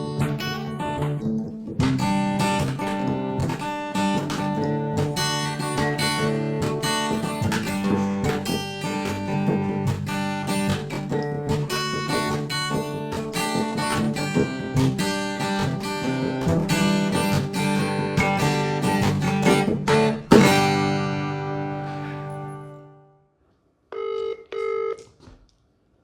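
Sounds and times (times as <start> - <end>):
acoustic guitar strumming: 0.0 - 23.2.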